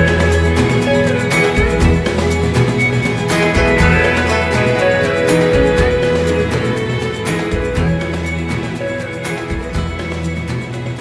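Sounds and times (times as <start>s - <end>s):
instrumental guitar music with beat: 0.0s - 11.0s.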